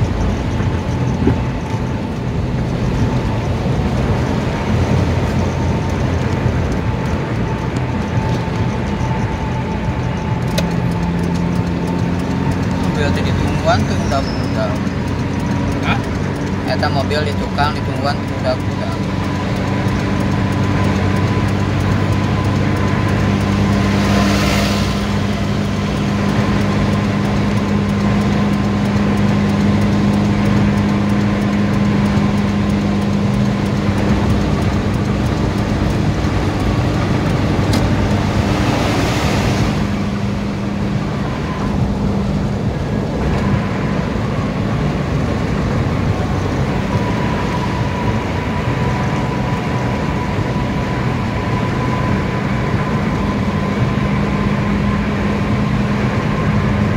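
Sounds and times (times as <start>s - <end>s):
car tyre and engine noise: 0.0s - 56.9s
truck passing: 0.0s - 56.9s.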